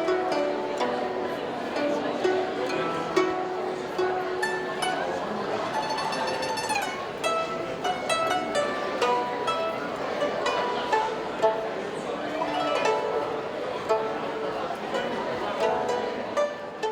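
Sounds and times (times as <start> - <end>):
plucked string instrument music: 0.0 - 16.9.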